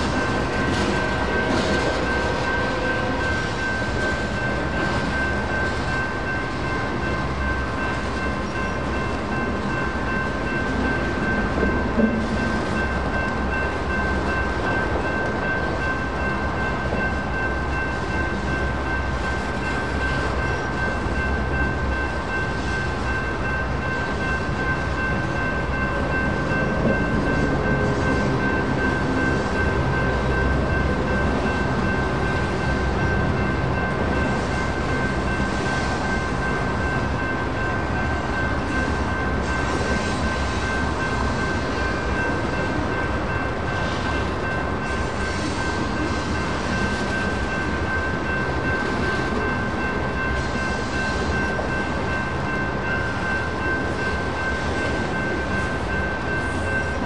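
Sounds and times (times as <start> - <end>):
electronic crossing warning bell: 0.0 - 57.0.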